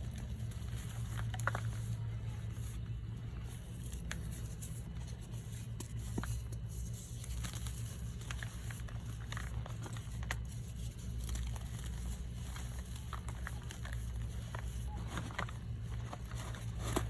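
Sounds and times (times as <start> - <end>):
chalk being crushed and crumbled: 0.0 - 17.0
steady low hum: 0.0 - 17.0.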